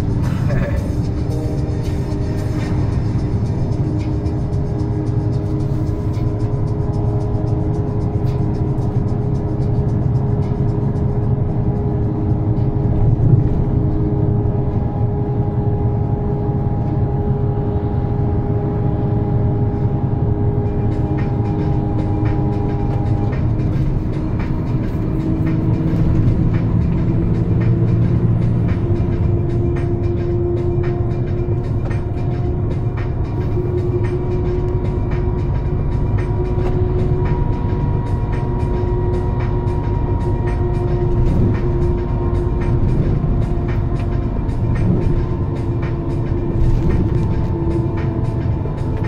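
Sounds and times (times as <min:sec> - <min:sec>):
truck engine droning: 0:00.0 - 0:49.0
tyre and road noise: 0:00.0 - 0:49.0.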